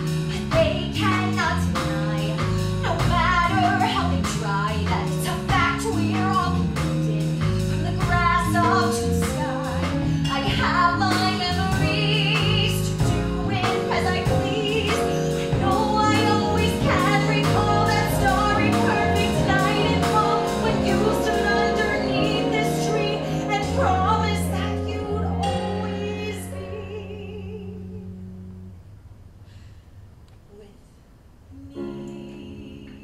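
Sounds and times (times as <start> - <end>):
instrumental accompaniment: 0.0 - 29.3
woman singing: 0.3 - 28.2, 31.6 - 33.0.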